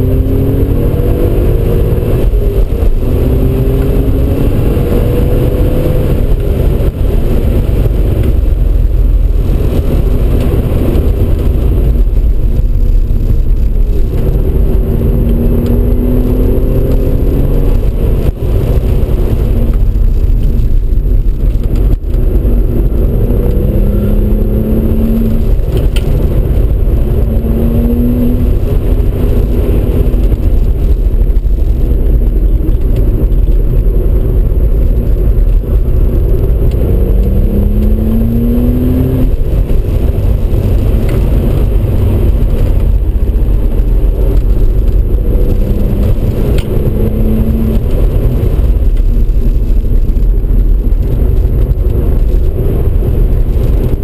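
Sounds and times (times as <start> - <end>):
car engine accelerating: 0.0 - 54.0
road noise: 0.0 - 54.0.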